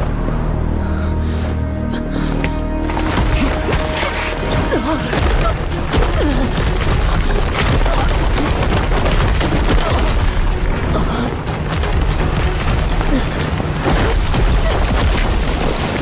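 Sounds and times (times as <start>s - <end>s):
faint music: 0.0s - 16.0s
rapid sharp cracks: 3.0s - 16.0s.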